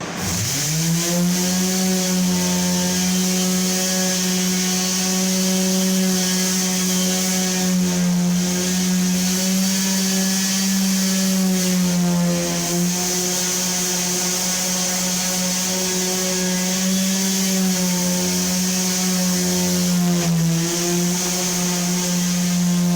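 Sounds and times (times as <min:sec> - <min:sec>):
electric sander running: 0:00.0 - 0:22.9.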